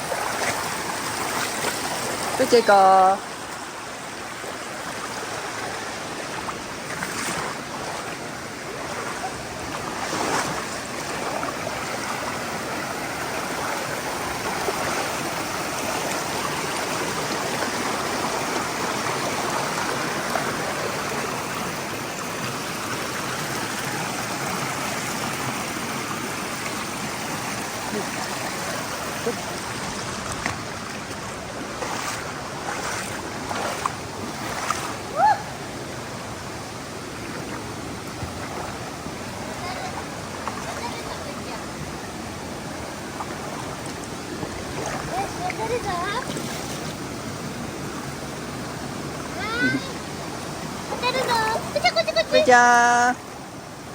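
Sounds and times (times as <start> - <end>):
stream rushing over boulders: 0.0 - 53.9.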